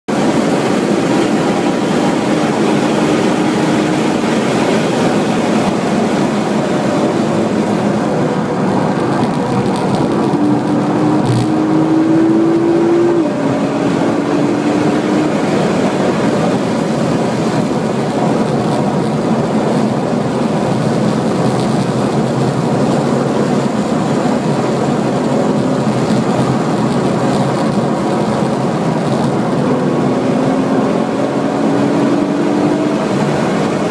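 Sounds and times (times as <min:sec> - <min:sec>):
car engine running hard: 0:00.1 - 0:33.9
wind and road noise: 0:00.1 - 0:33.9.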